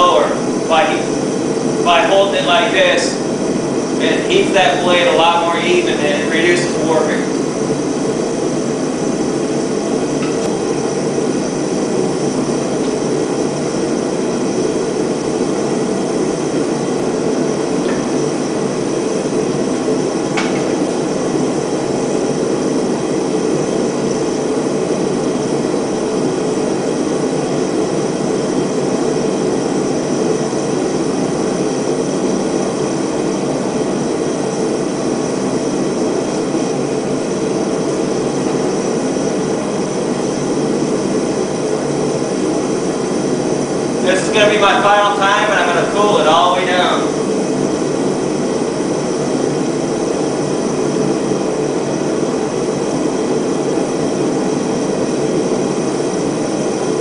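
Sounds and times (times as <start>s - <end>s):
gas forge burner rushing: 0.0s - 57.0s.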